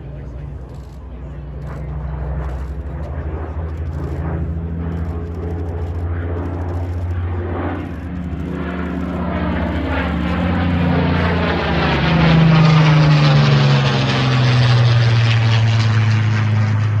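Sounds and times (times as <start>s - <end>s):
aircraft engines passing: 0.0s - 17.0s.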